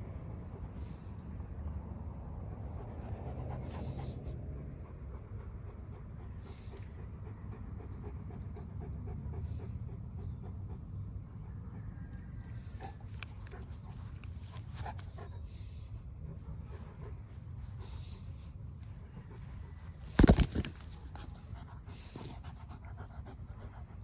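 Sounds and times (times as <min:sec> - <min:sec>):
dog panting: 0:02.3 - 0:11.8, 0:12.6 - 0:24.0.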